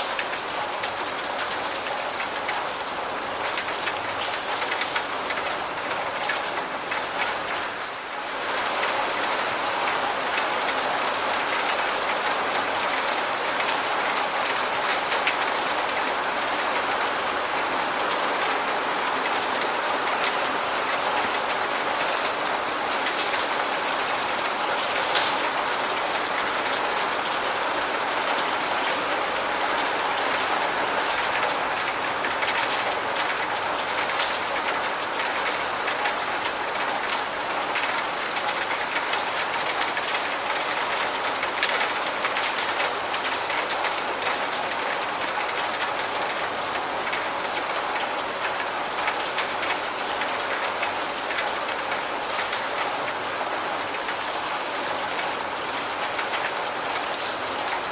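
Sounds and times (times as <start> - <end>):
steady rain on a surface: 0.0 - 57.9.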